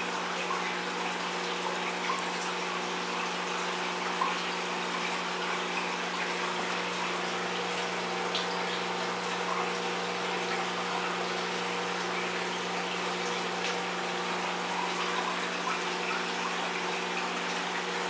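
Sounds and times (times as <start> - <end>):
pump motor hum: 0.0 - 18.0.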